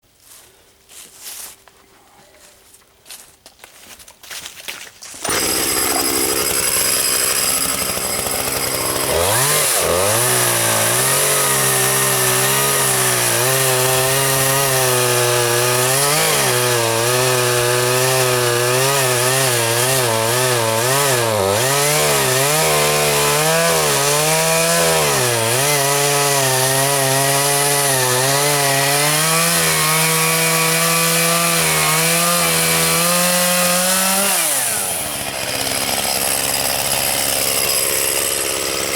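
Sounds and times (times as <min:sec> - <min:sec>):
chainsaw cutting wood: 0:05.1 - 0:38.9.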